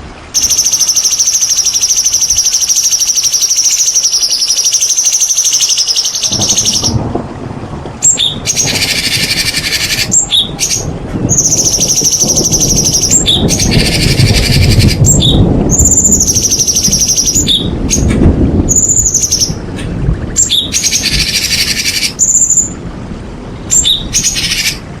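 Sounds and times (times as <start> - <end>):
bird singing trills and chatter: 0.4 - 7.0, 8.0 - 19.6, 20.3 - 22.8, 23.6 - 24.9.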